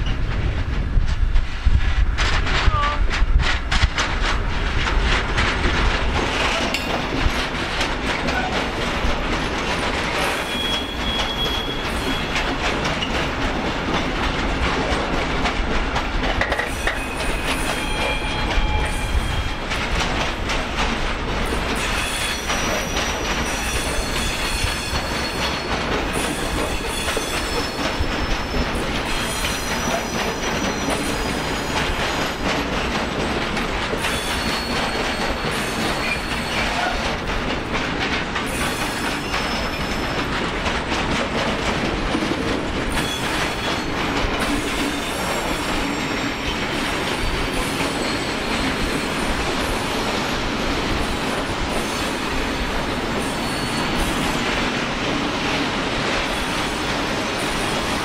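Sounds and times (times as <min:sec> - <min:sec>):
wheels clicking over rail joints: 0:03.2 - 0:51.9.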